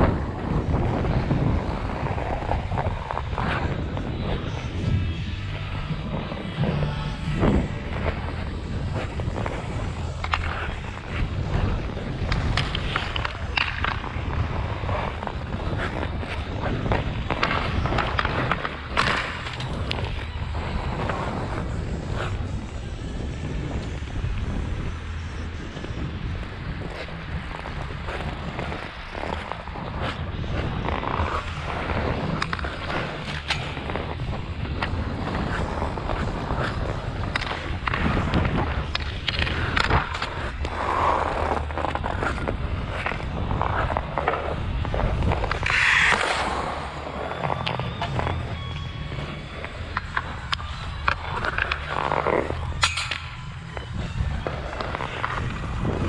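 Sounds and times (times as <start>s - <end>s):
skate blades scraping on ice: 0.0s - 56.0s
wind rumble on microphone: 0.0s - 56.0s.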